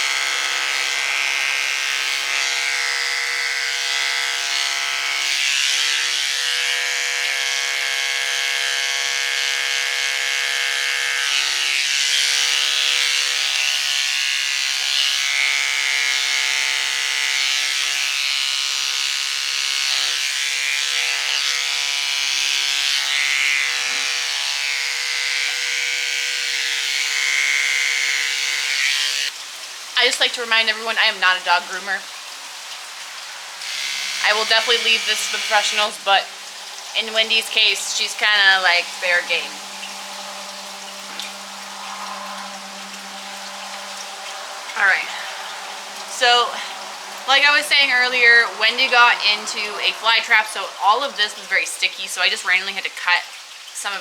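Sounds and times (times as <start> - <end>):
electric hair clippers buzzing: 0.0 - 53.4.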